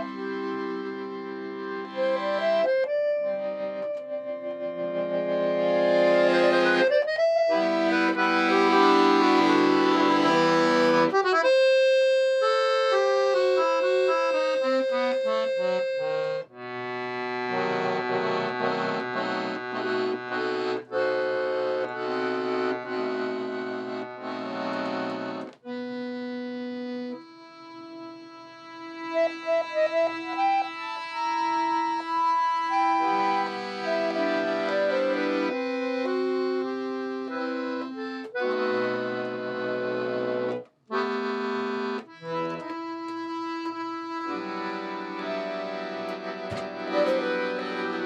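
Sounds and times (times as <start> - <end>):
accordion playing: 0.0 - 48.0.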